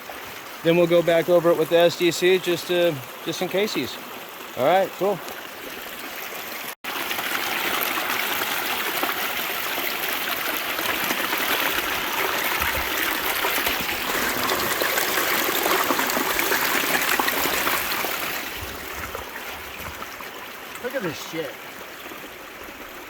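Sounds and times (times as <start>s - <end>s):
water rushing and splashing: 0.0s - 23.0s.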